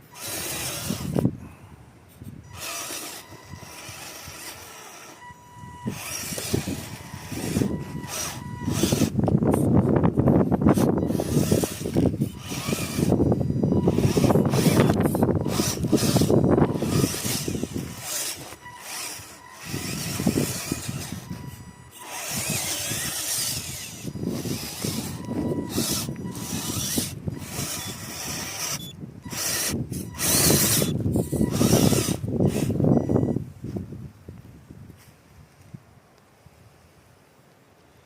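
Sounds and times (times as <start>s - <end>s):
rc car motor rattling: 0.0s - 1.4s, 2.1s - 33.4s.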